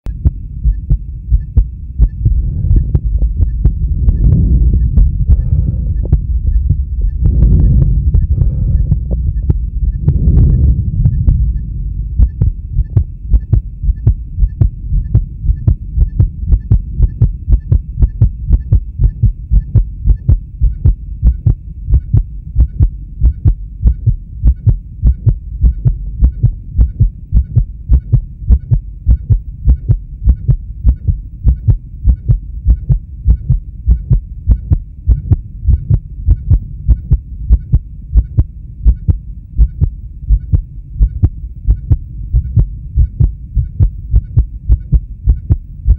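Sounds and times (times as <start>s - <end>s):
heartbeat thuds: 0.1s - 45.9s.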